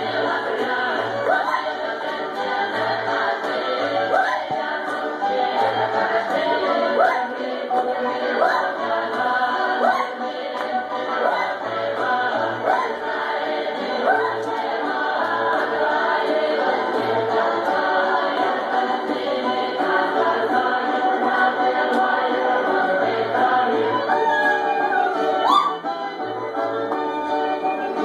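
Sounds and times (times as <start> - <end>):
choir singing folk song: 0.0 - 28.0.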